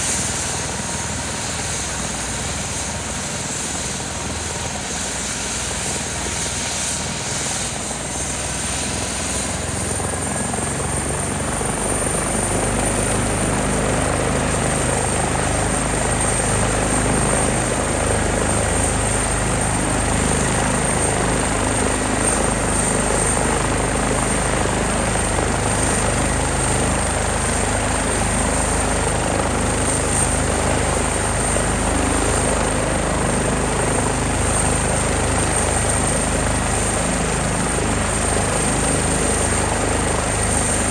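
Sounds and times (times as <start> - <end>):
helicopter turbines and rotor: 0.0 - 40.9.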